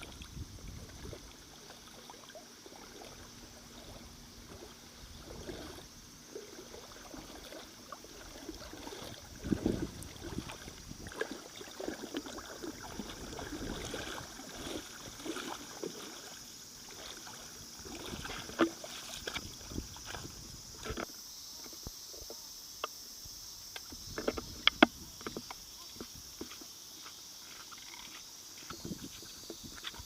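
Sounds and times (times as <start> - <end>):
water sloshing and splashing: 0.0 - 21.2, 23.8 - 26.8.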